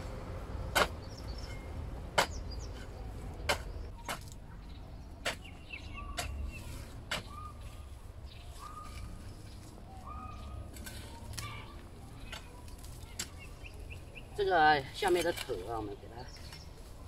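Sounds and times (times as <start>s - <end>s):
birds calling: 0.0s - 17.0s
garden tools striking hard soil: 0.1s - 4.5s, 5.1s - 9.8s, 10.4s - 16.9s.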